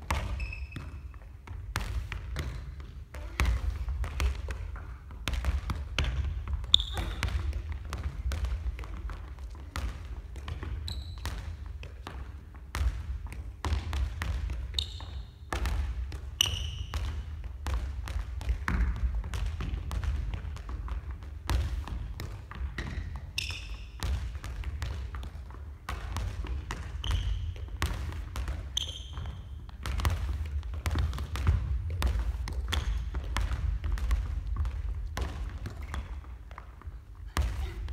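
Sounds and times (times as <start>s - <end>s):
ball bouncing on wooden floor: 0.0s - 37.9s
ball tapped by feet: 0.0s - 37.9s.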